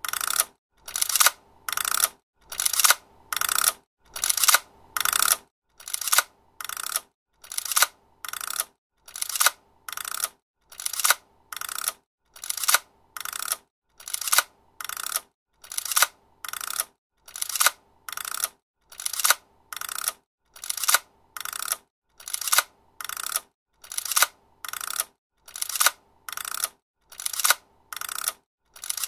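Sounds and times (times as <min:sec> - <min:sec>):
film camera mechanism clicking: 0:00.0 - 0:29.0.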